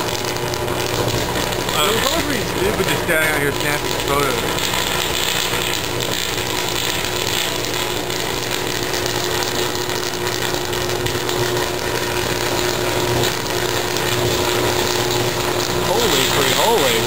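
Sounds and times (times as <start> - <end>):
electrical arc buzzing crackle: 0.0 - 17.0
low electrical hum: 0.0 - 17.0.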